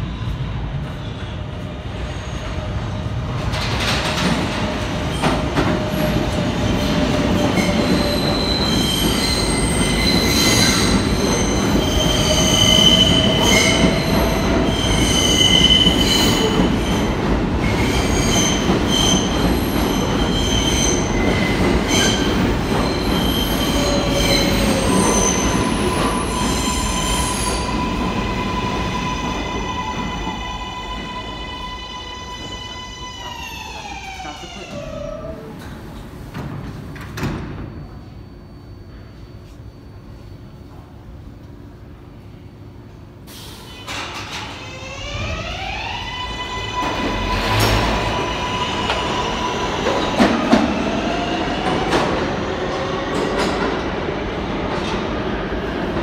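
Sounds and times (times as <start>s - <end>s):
train wheels rumbling on rail: 0.0s - 37.9s, 42.6s - 56.0s.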